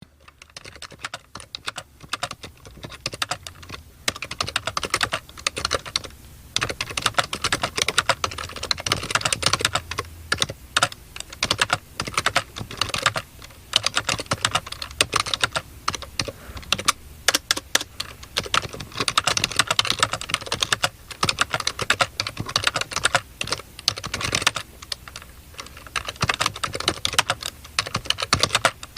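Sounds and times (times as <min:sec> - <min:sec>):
rapid keyboard typing: 0:00.0 - 0:28.9.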